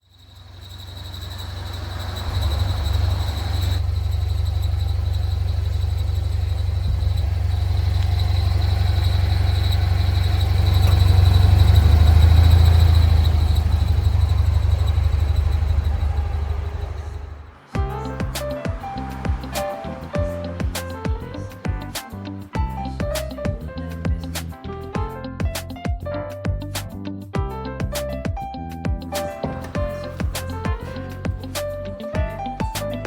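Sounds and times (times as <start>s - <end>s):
car engine idling: 0.0s - 24.9s, 29.2s - 33.0s
high-pitched metallic squeal: 0.1s - 23.4s, 29.2s - 33.0s.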